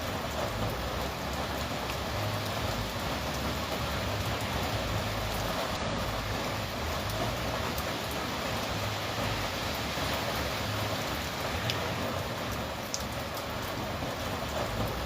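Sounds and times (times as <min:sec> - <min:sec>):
raindrop ticks: 0:00.0 - 0:15.0
steady rain falling: 0:00.0 - 0:15.0.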